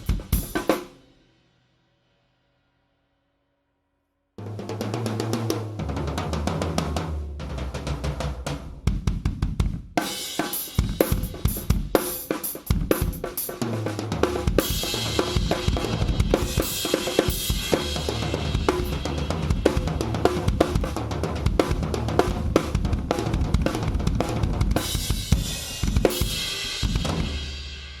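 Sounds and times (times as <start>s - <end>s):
drum kit groove: 0.0s - 1.0s, 4.5s - 28.0s.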